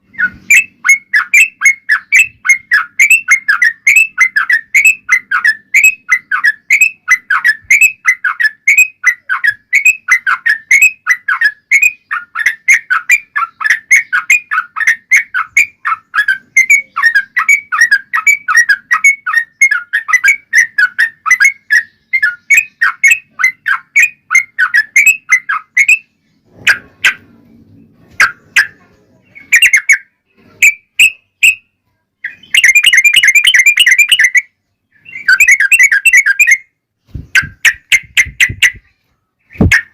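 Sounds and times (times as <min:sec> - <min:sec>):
bird singing chattering whistles: 0:00.0 - 0:26.1, 0:28.2 - 0:39.9.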